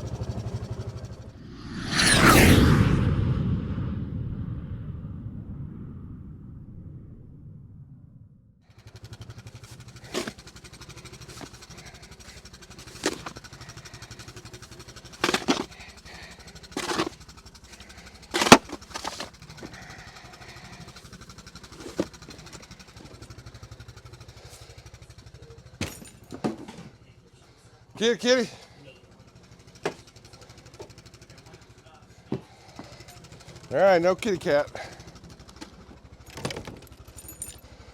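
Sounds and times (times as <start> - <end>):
utility vehicle engine idling: 0.0 - 1.4, 8.6 - 37.9.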